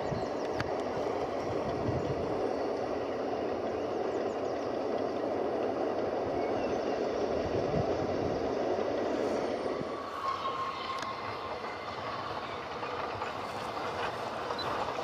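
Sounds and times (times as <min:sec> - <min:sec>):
distant steam train rumbling: 0:00.0 - 0:15.0.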